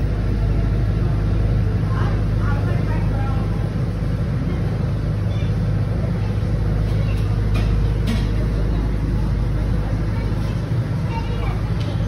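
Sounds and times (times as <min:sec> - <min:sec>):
low machine hum: 0:00.0 - 0:12.0
faint background voices: 0:00.3 - 0:12.0.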